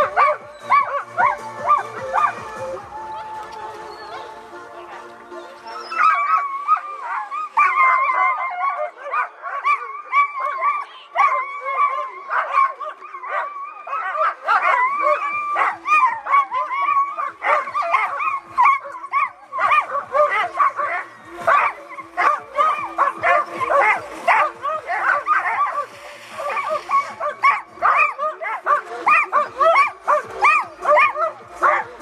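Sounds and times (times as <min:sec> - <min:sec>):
dogs barking and howling: 0:00.0 - 0:32.0.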